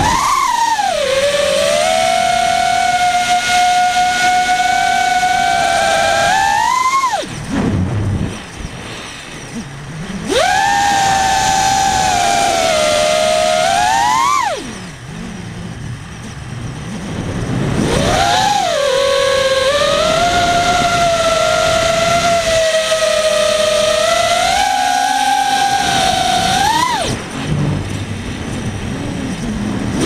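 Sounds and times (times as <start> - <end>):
drone motors whining: 0.0 - 30.0
low wind rumble: 0.0 - 30.0.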